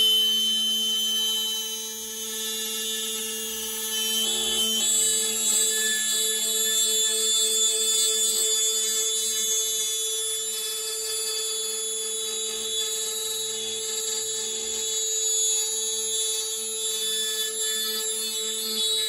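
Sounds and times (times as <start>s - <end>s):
router spindle high whine: 0.0s - 19.0s.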